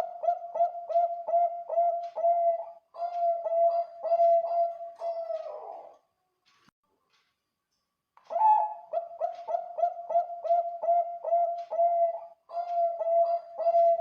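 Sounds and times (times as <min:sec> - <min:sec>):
dove cooing: 0:00.0 - 0:06.0, 0:08.3 - 0:14.0.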